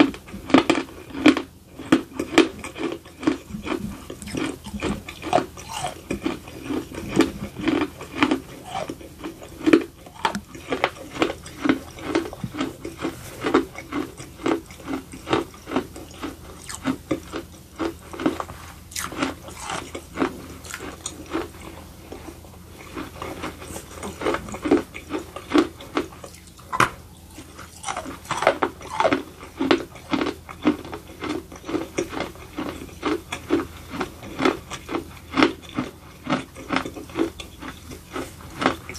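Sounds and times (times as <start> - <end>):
gritty chewing crunches: 0.0 - 38.9.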